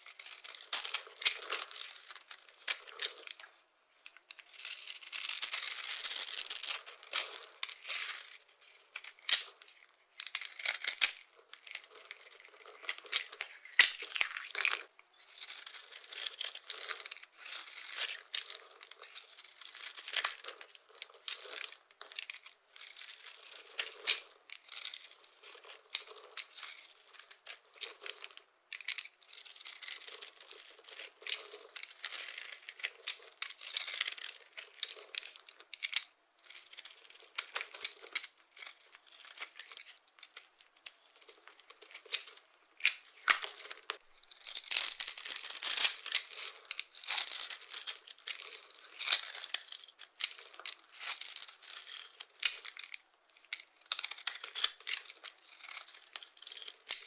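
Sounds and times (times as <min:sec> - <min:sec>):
dry soap crunching: 0:04.5 - 0:57.0.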